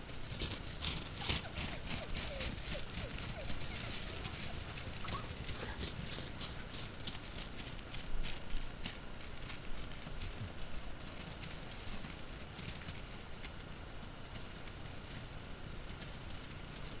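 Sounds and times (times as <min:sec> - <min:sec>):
paws crunching on snow: 0:00.0 - 0:17.0.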